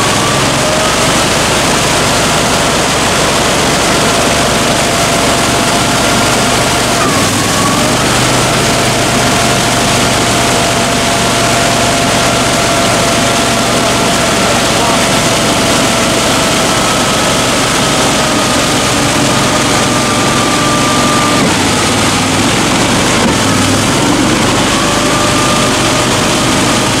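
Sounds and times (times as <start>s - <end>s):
atv engine droning: 0.0s - 27.0s
wheels churning mud: 0.0s - 27.0s.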